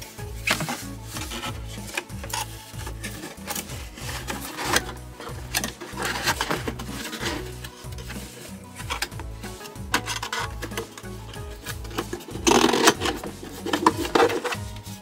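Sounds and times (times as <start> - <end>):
background music: 0.0 - 15.0
cardboard rubbing and crackling: 0.0 - 15.0.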